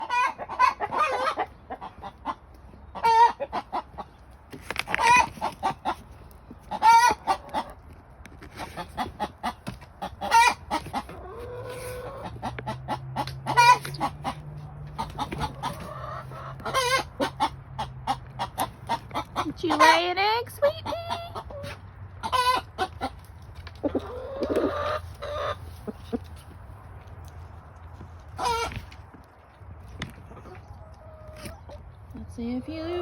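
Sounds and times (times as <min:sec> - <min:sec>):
hens squawking and clucking: 0:00.0 - 0:33.0.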